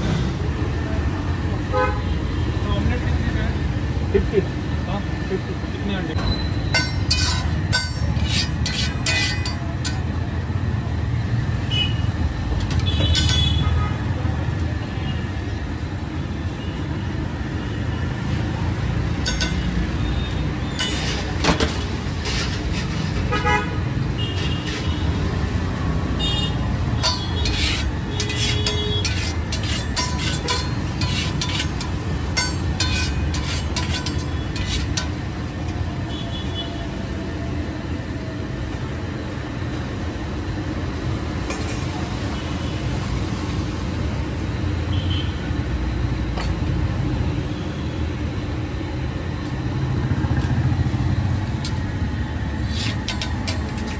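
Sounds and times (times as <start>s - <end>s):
traffic rumble: 0.0s - 53.9s.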